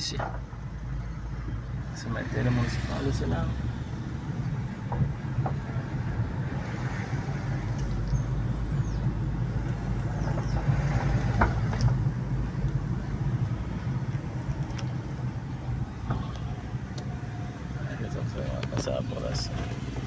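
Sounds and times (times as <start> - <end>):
car engine and tyre drone: 0.1 - 20.0.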